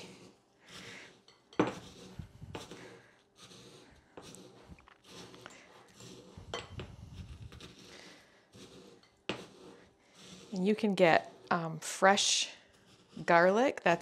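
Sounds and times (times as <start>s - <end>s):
pestle grinding in stone mortar: 0.0s - 11.7s.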